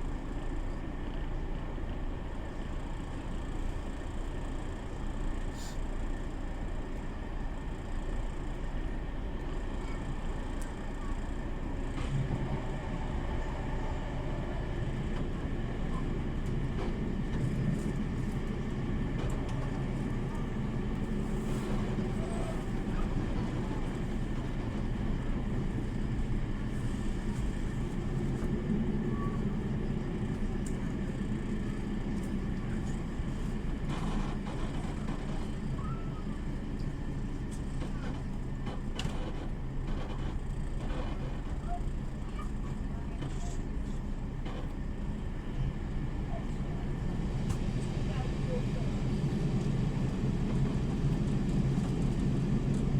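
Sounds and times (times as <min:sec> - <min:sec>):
train engine drone and rumble: 0:00.0 - 0:52.9.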